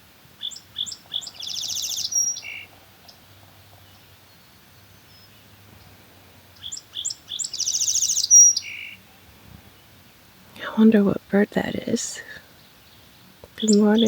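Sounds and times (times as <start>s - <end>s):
songbird singing buzzy trill: 0.0s - 14.0s.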